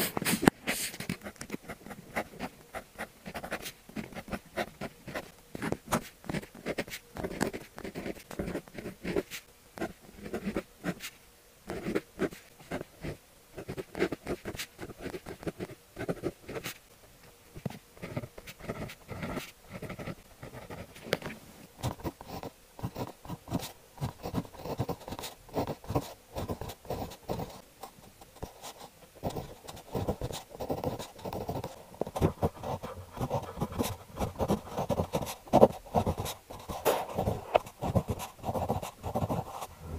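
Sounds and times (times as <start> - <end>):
pen scratching on paper: 0.0 - 11.1, 11.7 - 16.8, 17.6 - 21.1, 21.8 - 27.6, 28.3 - 39.9.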